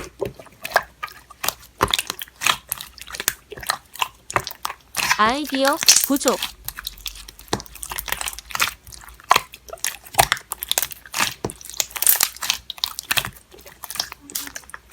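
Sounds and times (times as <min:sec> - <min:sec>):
slime crackling and clicking: 0:00.6 - 0:14.9.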